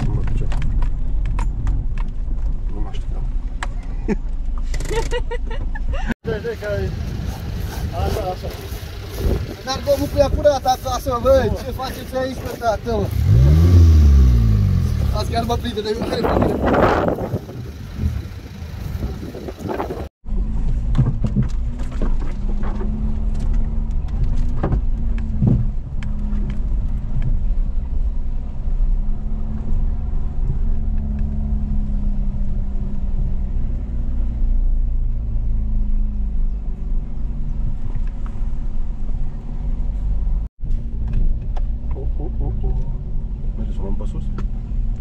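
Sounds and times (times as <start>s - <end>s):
engine running low: 6.3s - 45.0s.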